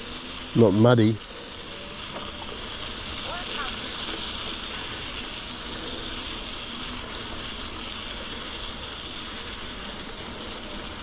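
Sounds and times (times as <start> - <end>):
bike tyres rolling on gravel: 0.0 - 11.0.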